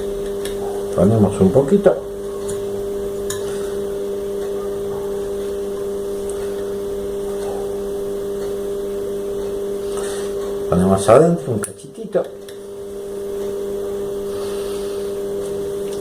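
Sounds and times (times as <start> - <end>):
electrical machine hum: 0.0 - 16.0.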